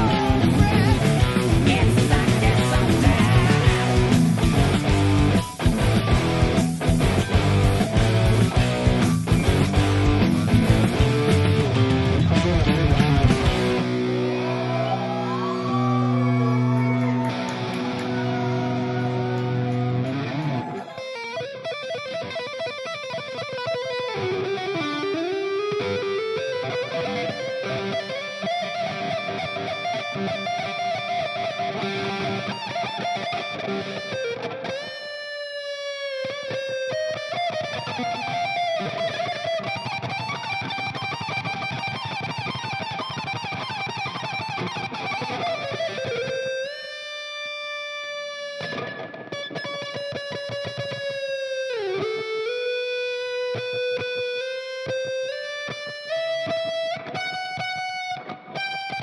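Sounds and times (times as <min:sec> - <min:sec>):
electric guitar solo: 0:00.0 - 0:59.0.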